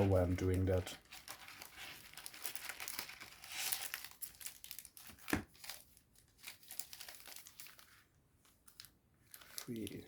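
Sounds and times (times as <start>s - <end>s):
foil packs crinkling: 0.0s - 8.0s, 8.6s - 10.0s.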